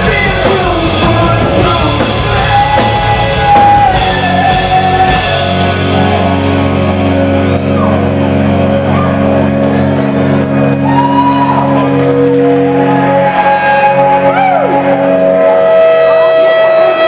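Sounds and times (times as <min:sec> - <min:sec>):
bass guitar: 0:00.0 - 0:17.0
electric guitars: 0:00.0 - 0:17.0.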